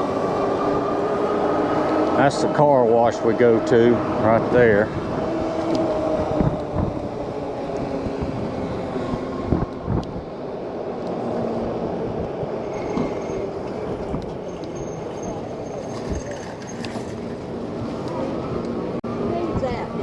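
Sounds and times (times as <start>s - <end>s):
tyre noise on road: 0.0s - 20.0s
wind on microphone: 0.0s - 20.0s.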